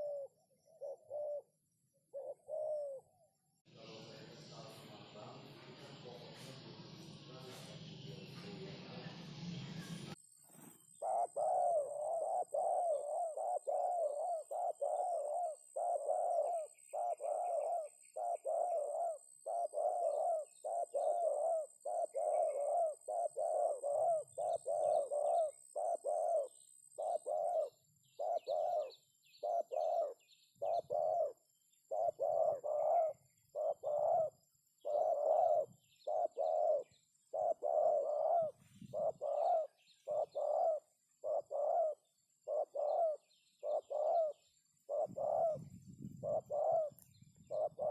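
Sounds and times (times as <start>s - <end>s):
dove cooing: 0.0s - 3.3s, 10.8s - 47.9s
small birds chirping: 0.0s - 47.9s.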